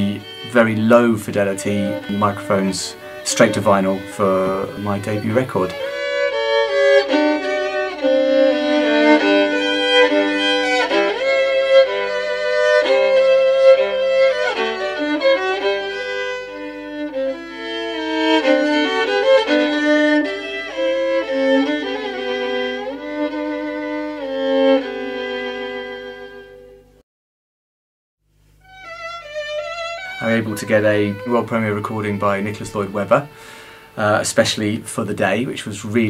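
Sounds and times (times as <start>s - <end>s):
bowed violin melody: 0.0s - 27.0s, 28.6s - 36.0s.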